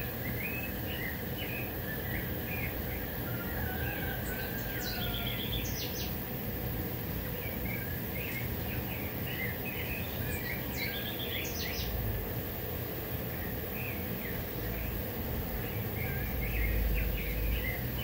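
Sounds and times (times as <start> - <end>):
birds chirping and singing: 0.0 - 6.3, 7.2 - 12.0, 13.2 - 18.0.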